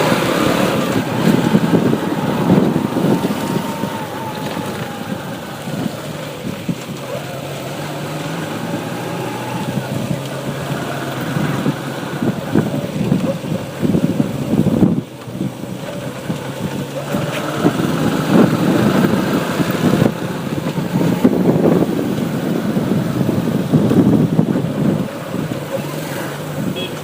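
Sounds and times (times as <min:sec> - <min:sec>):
motorbike engine running: 0:00.0 - 0:27.0
rumble of road traffic: 0:00.0 - 0:27.0.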